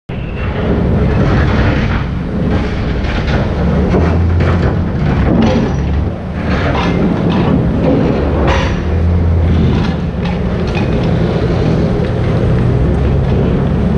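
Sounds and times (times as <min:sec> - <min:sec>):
crane engine hum: 0:00.1 - 0:13.9
metal clanks and knocks: 0:00.1 - 0:13.9.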